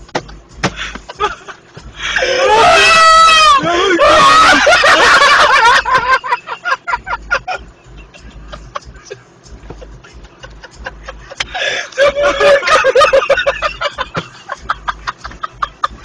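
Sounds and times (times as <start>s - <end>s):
people laughing: 0.8s - 2.4s, 3.5s - 16.0s.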